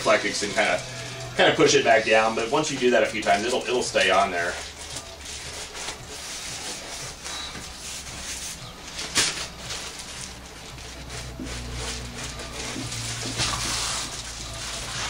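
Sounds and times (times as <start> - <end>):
foil insulation rustling: 0.0 - 15.0.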